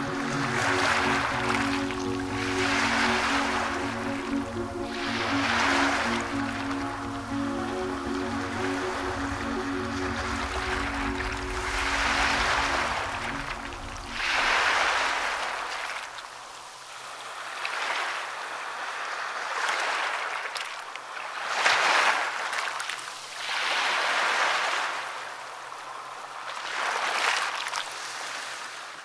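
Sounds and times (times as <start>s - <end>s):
small waves washing on shore: 0.0s - 29.0s.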